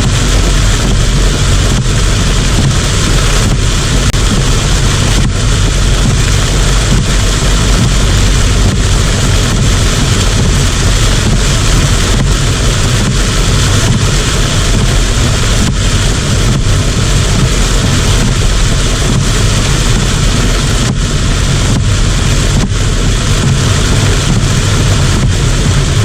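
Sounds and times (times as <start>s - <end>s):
heavy rain pouring: 0.0s - 26.0s
wind rumbling on microphone: 0.0s - 26.0s.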